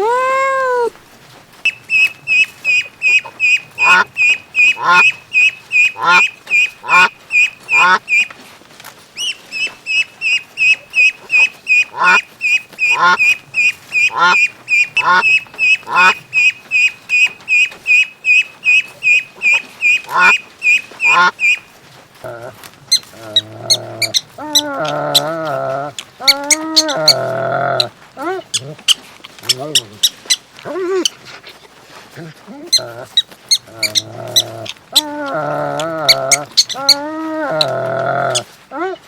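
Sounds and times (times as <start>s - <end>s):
ducks quacking: 1.6s - 8.3s, 9.2s - 31.8s, 32.7s - 39.0s
high peeping calls: 1.6s - 8.3s, 9.2s - 21.7s, 22.9s - 25.3s, 26.2s - 31.2s, 32.7s - 38.5s.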